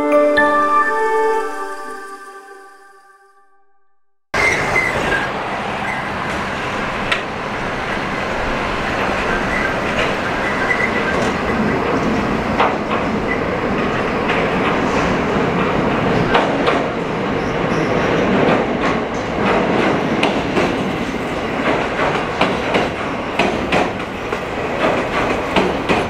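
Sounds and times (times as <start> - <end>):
train wheels rumbling on rails: 4.4 - 26.0.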